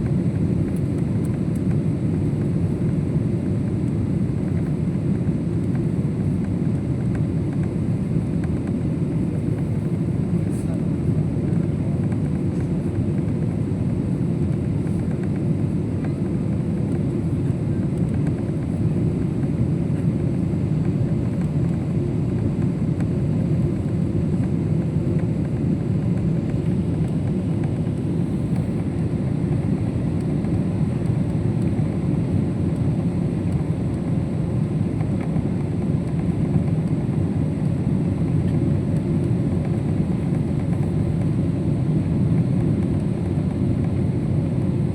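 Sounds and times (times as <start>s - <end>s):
airliner engines roaring in cabin: 0.0s - 44.9s.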